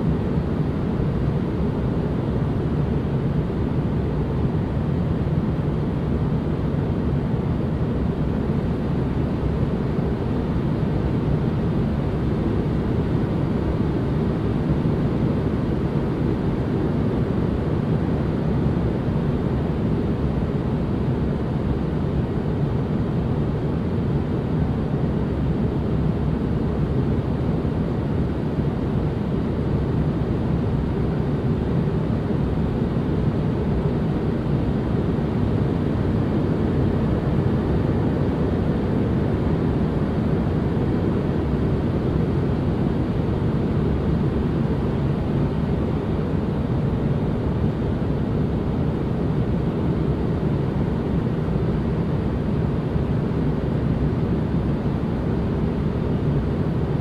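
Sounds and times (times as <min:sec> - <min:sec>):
deep low white noise hiss: 0:00.0 - 0:57.0.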